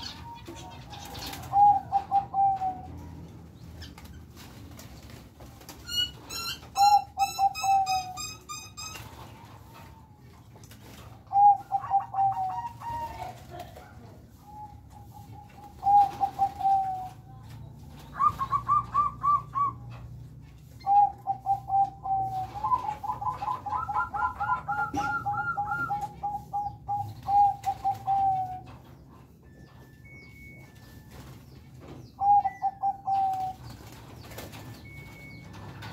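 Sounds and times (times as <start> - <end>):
doves cooing: 0.0 - 35.9.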